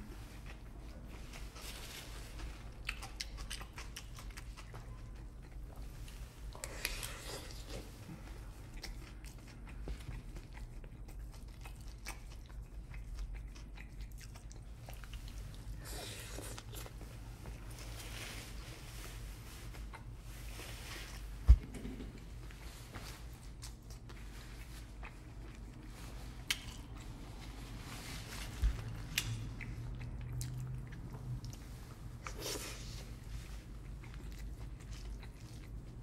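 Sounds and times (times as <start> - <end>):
steady low hum: 0.0 - 36.0
person chewing: 2.3 - 18.6, 21.0 - 27.5, 28.6 - 36.0.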